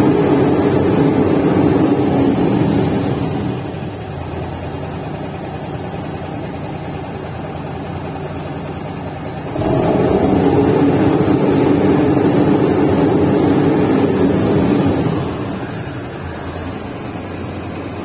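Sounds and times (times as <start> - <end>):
diesel engine idling and revving: 0.0 - 18.0.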